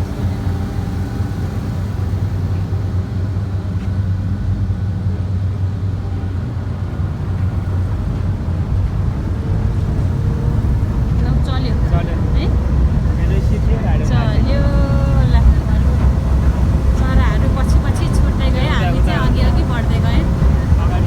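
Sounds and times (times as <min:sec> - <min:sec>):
ferry engines droning: 0:00.0 - 0:21.0.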